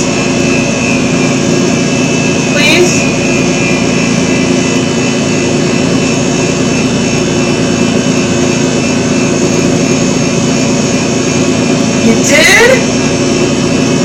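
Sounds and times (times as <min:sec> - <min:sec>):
steady machine drone: 0:00.0 - 0:14.0.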